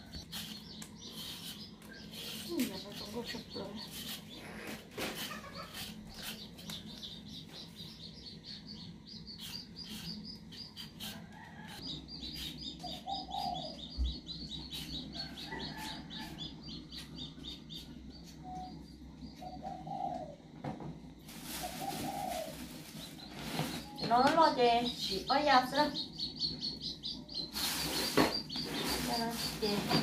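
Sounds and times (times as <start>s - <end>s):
birds chirping: 0.0s - 20.6s, 21.4s - 30.0s
low clucking bird calls: 0.0s - 24.2s.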